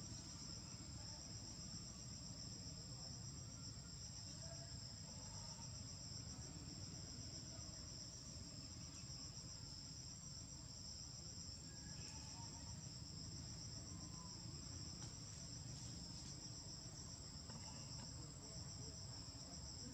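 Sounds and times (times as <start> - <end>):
insects trilling: 0.0 - 19.9.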